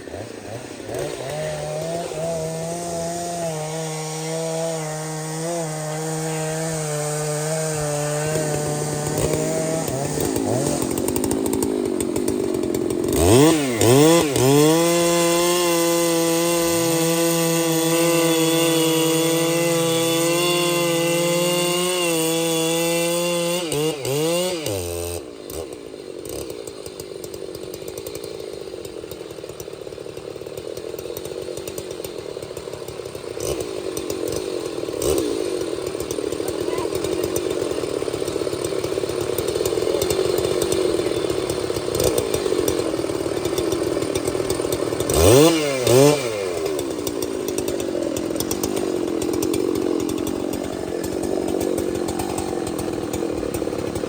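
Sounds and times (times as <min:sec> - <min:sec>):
chainsaw engine revving: 0:00.0 - 0:54.0.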